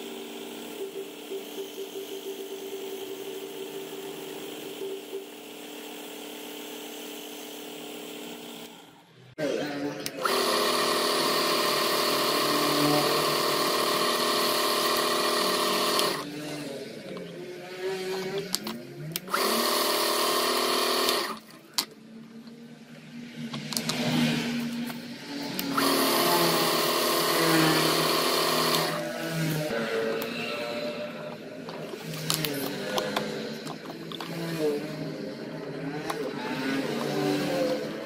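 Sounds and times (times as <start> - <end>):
electric power tool whining: 0.0 - 21.9, 24.8 - 38.0.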